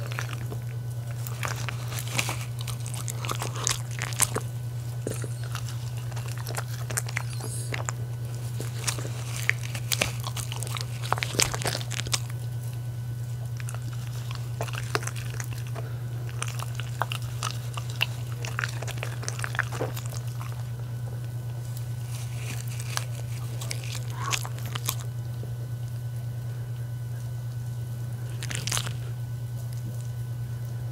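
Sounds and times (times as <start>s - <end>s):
dogs chewing food: 0.0s - 30.9s
steady low hum: 0.0s - 30.9s.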